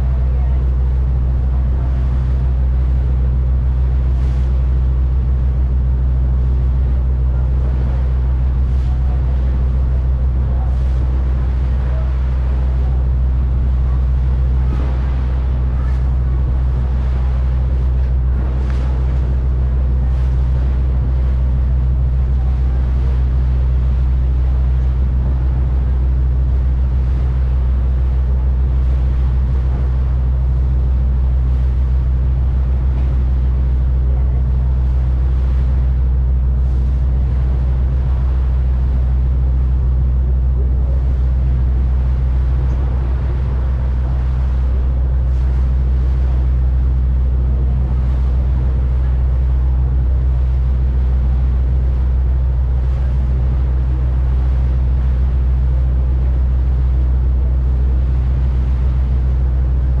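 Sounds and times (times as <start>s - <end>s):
ferry engines droning: 0.0s - 60.0s
hiss of wind and water: 0.0s - 60.0s.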